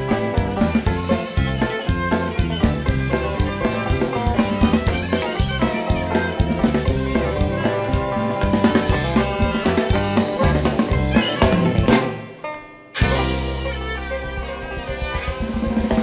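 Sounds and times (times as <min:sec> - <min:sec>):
banjo picking: 0:00.0 - 0:16.0
drum kit beat: 0:00.0 - 0:16.0.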